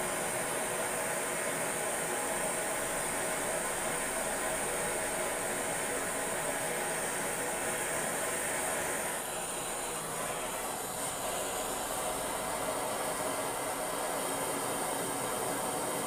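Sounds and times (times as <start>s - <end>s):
gas torch hissing: 0.0s - 16.0s.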